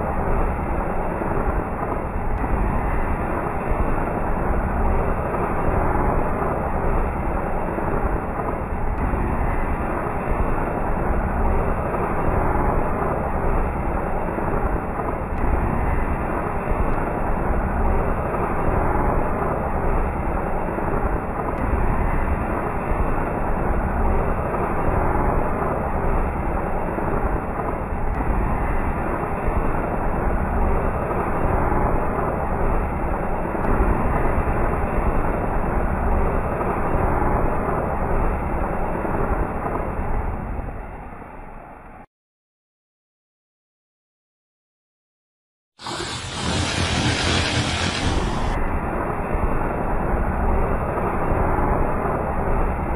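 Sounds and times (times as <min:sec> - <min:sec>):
fountain firework rushing: 0:00.0 - 0:40.5, 0:45.8 - 0:52.9.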